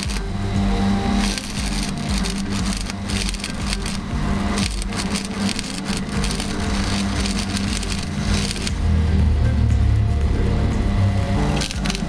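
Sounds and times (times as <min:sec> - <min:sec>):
low hum: 0:00.0 - 0:12.0
welding arc crackling: 0:00.0 - 0:12.0.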